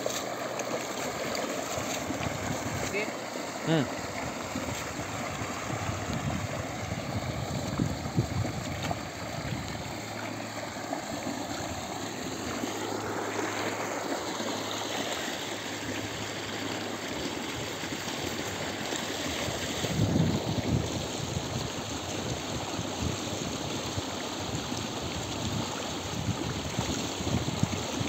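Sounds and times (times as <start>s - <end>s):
water pouring from a pipe: 0.0s - 28.0s.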